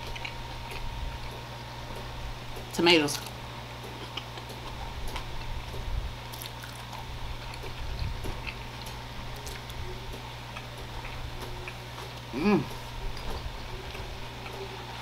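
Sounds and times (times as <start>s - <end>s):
person chewing: 0.0s - 2.1s, 3.2s - 15.0s
low hum: 0.0s - 15.0s.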